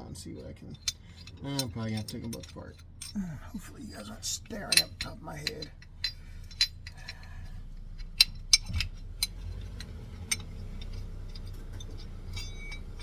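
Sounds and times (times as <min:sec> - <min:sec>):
metal parts clinking: 0:00.0 - 0:13.0
steady low hum: 0:00.0 - 0:13.0.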